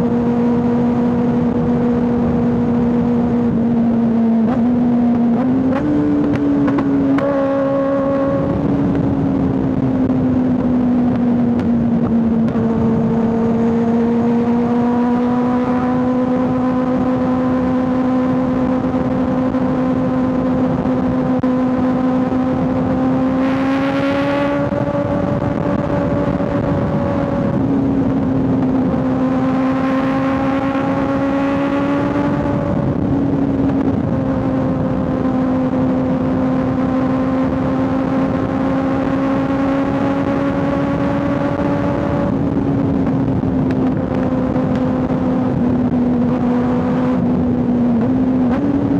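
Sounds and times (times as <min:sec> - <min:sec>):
motorcycle engine cruising: 0:00.0 - 0:48.9
wind and road noise: 0:00.0 - 0:48.9.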